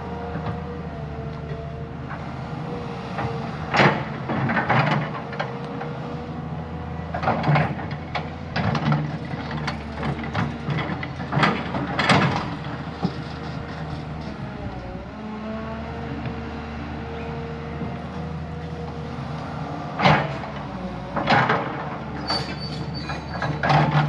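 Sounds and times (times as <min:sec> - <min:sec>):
heavy machine diesel engine: 0:00.0 - 0:24.0.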